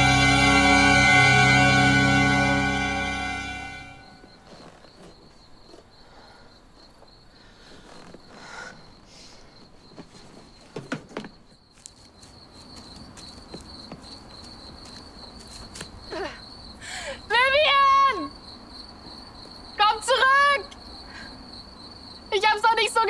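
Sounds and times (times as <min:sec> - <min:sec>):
cricket chirring: 0:03.9 - 0:23.0.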